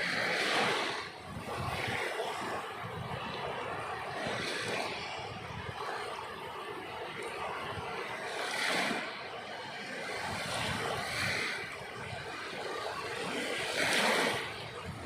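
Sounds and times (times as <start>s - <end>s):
sea waves surging: 0.0s - 15.0s.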